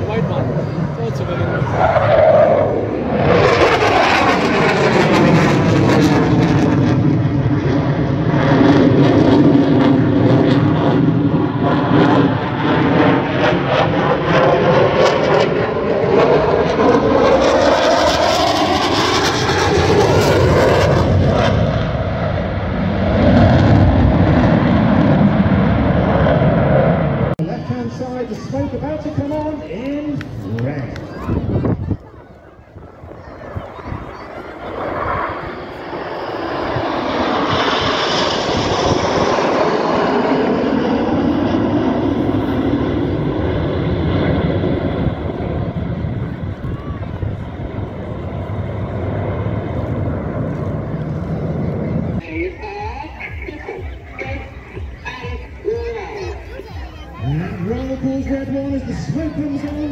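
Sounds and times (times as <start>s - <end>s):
aircraft flying past: 0.0s - 59.9s.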